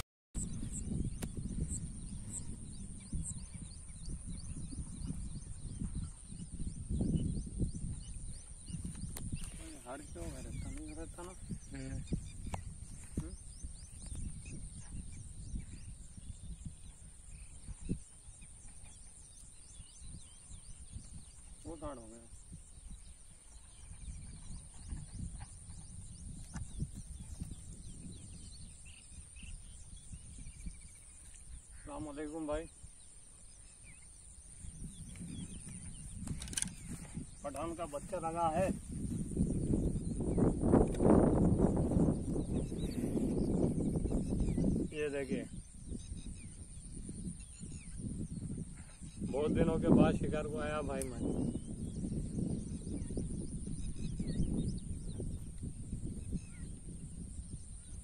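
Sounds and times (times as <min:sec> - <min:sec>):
wind rumbling on microphone: 0:00.0 - 0:58.0
birds chirping: 0:00.4 - 0:58.0.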